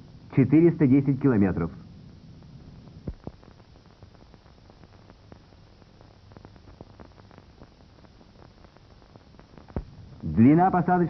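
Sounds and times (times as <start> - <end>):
faint film hiss: 0.0 - 11.0
crackles and clicks: 1.8 - 11.0.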